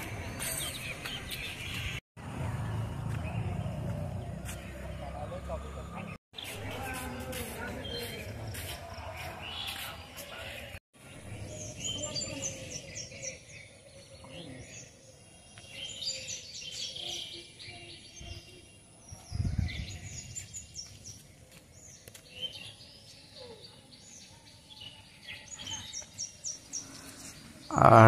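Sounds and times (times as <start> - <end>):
small birds chirping: 3.0 - 28.0.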